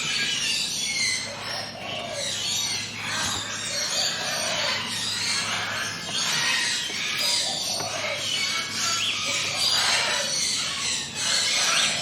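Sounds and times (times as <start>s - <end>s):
birds singing and chirping: 0.0s - 12.0s
steady low hum: 0.0s - 12.0s.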